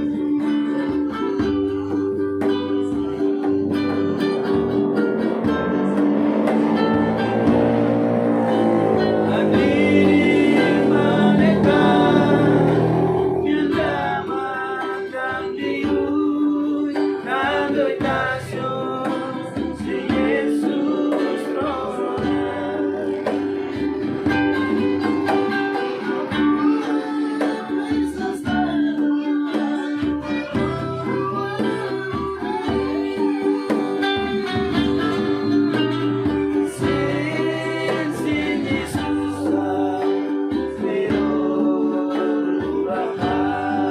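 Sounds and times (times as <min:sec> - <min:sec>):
people singing: 0:00.0 - 0:43.9
strummed acoustic guitar: 0:00.0 - 0:43.9.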